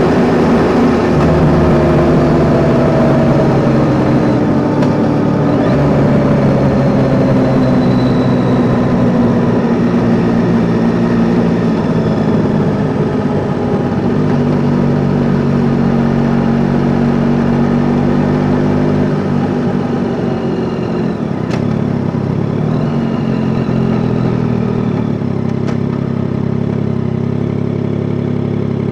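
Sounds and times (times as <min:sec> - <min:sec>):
motorcycle engine running at low revs: 0:00.0 - 0:28.9.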